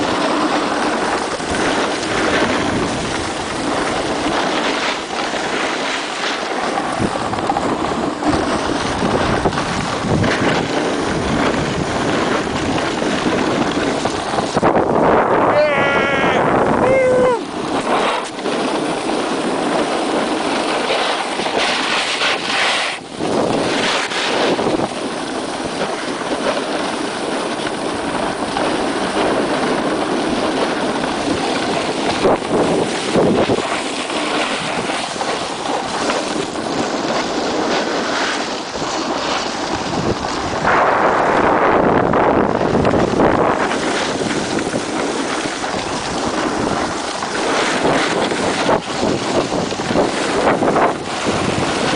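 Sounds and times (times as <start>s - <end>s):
snowboard scraping packed snow: 0.0s - 16.7s, 17.5s - 51.9s
wind rushing over microphone: 0.0s - 51.9s.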